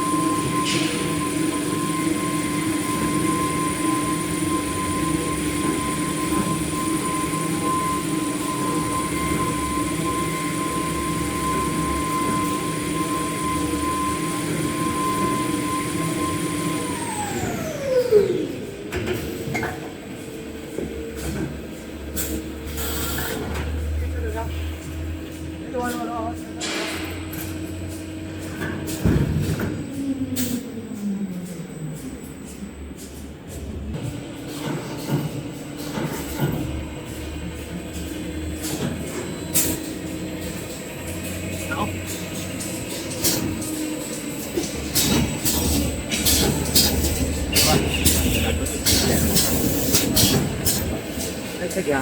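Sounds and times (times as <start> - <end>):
machinery humming: 0.0 - 52.0.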